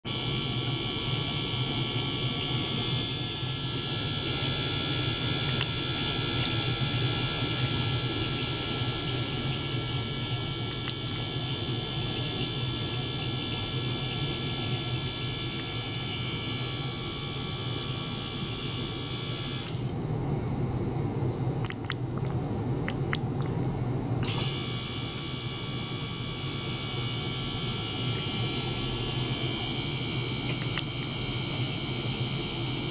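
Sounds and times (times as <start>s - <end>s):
high many-toned whine: 0.1s - 32.9s
pump low hum: 0.1s - 32.9s.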